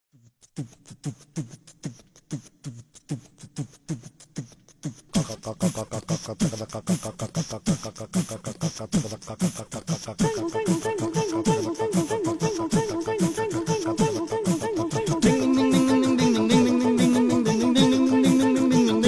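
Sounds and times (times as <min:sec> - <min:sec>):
beatboxing: 0:00.2 - 0:19.0.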